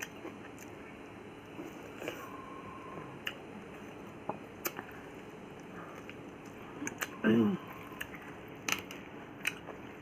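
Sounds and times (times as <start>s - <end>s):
soft chewing: 0.0s - 10.0s.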